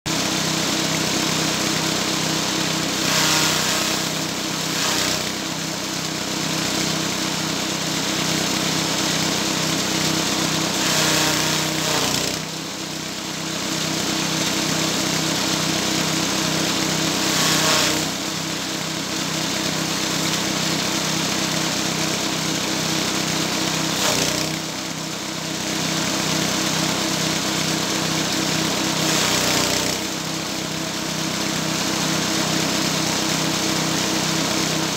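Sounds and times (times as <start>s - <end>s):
small engine running: 0.1s - 34.9s.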